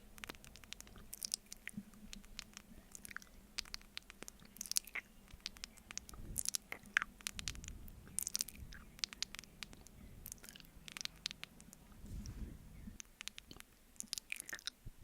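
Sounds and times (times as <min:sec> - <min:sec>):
wet mouth clicks and smacks eating: 0:00.1 - 0:12.0, 0:13.0 - 0:14.8.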